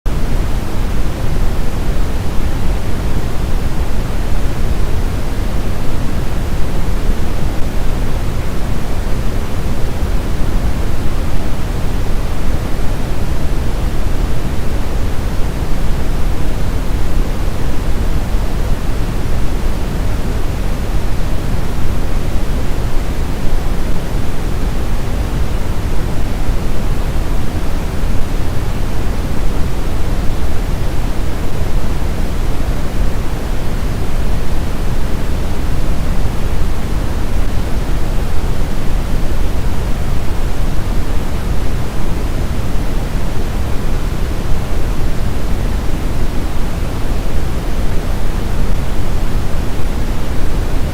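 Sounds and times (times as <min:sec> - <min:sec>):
white noise hiss: 0:00.1 - 0:50.9.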